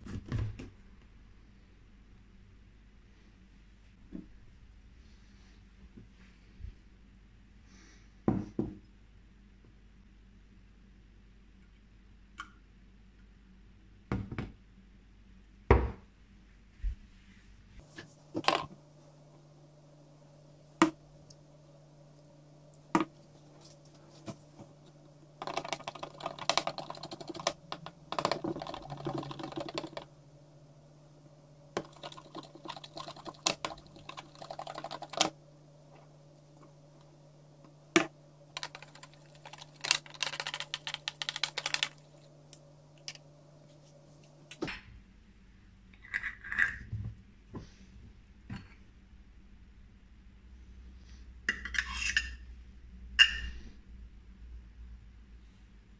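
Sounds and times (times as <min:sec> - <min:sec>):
low steady hum: 0:00.0 - 0:55.9.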